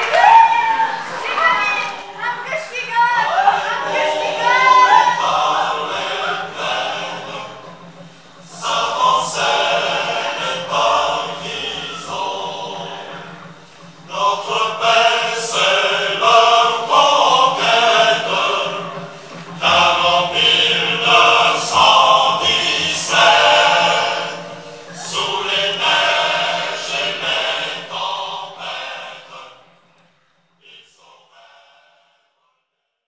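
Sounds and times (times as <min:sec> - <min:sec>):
choir singing: 0:00.0 - 0:32.4.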